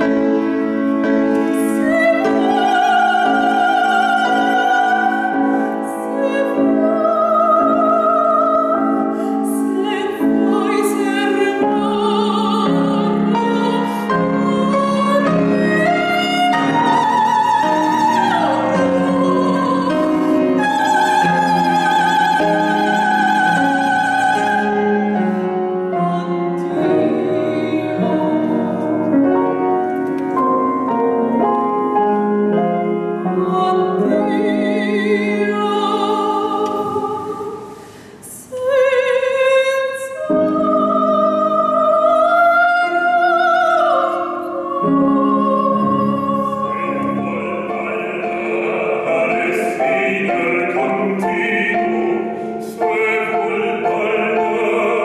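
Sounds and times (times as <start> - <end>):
soprano singing opera: 0.0 - 29.5, 33.1 - 55.0
piano accompaniment: 0.0 - 55.0.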